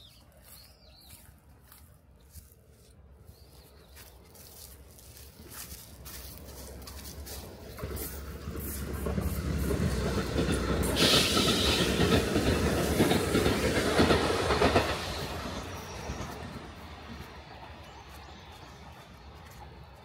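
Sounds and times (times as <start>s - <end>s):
train passing: 0.0s - 20.0s.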